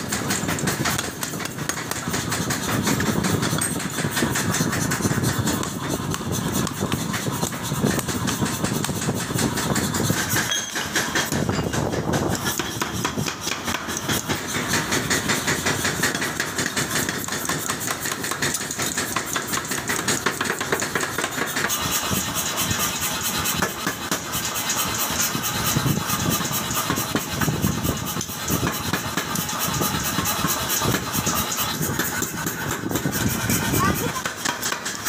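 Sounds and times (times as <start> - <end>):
motor running with rattling: 0.0 - 35.0.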